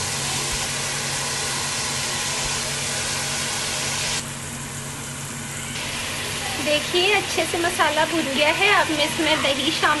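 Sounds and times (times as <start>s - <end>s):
food sizzling in oil: 0.0s - 4.3s, 5.2s - 10.0s.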